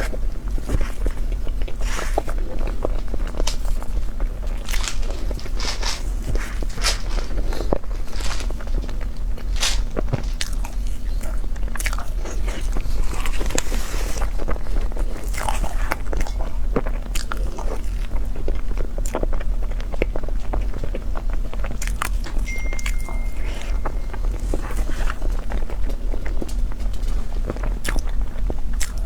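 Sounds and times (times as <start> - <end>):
person biting and chewing food: 0.0 - 18.2, 21.2 - 26.5, 27.6 - 29.0
steady low hum: 0.0 - 29.0.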